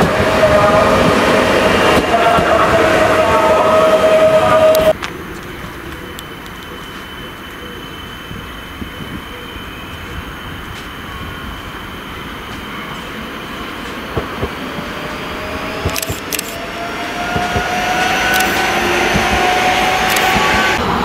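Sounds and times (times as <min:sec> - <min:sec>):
electric train approaching: 0:00.0 - 0:21.0
motor whine: 0:00.0 - 0:21.0.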